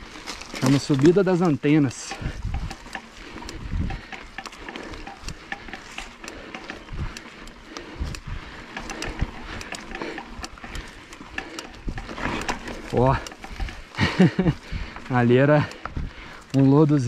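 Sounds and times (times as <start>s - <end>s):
bike rattling over roots: 0.0s - 17.0s.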